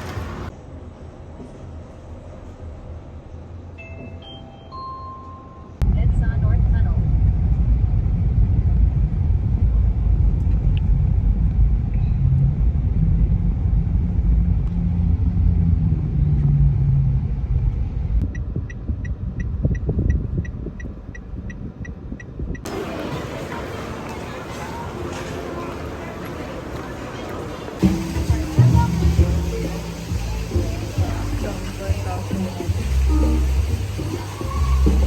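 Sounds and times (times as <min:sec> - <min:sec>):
moving vehicle rumble: 0:00.0 - 0:03.8, 0:05.8 - 0:35.0.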